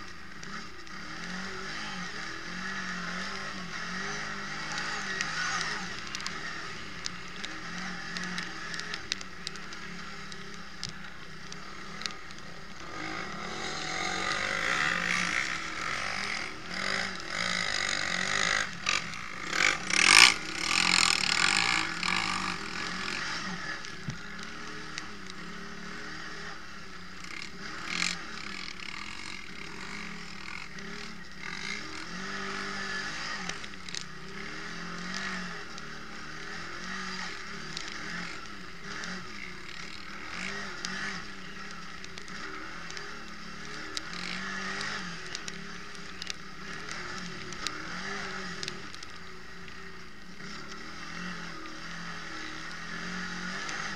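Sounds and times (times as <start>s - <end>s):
quad bike engine running hard: 0.0s - 53.9s.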